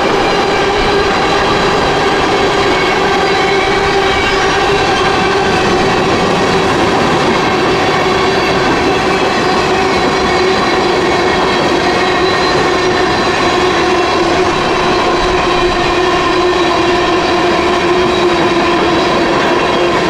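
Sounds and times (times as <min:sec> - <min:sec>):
freight wagon wheels rumbling: 0:00.0 - 0:20.0
wheels squealing: 0:00.0 - 0:20.0.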